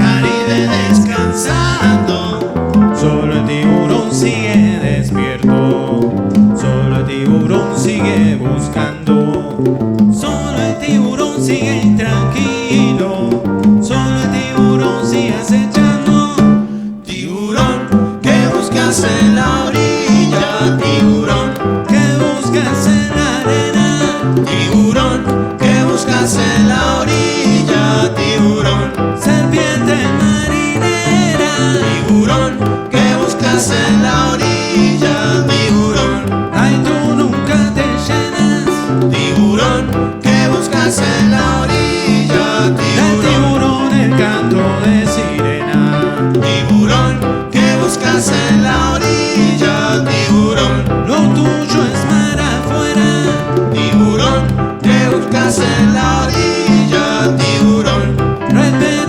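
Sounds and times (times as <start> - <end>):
salsa band playing: 0.0 - 59.0.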